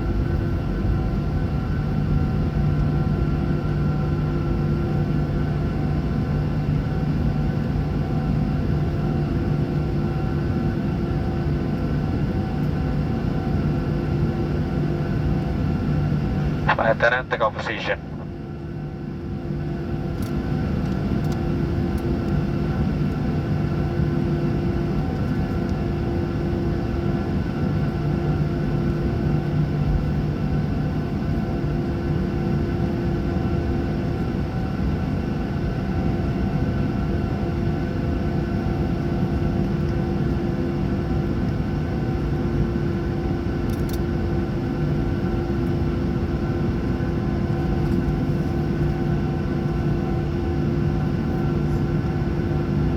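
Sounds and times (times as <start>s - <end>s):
jet engines rumbling in cabin: 0.0s - 52.9s.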